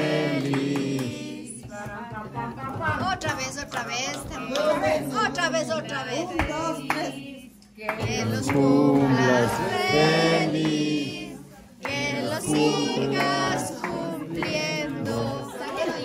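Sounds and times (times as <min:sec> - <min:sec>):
group singing in unison: 0:00.0 - 0:02.6, 0:04.2 - 0:16.0.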